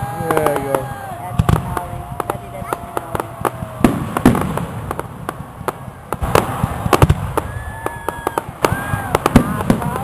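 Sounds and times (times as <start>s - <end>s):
deep fireworks booms: 0.0s - 10.0s
fireworks bangs and crackles: 0.0s - 10.0s.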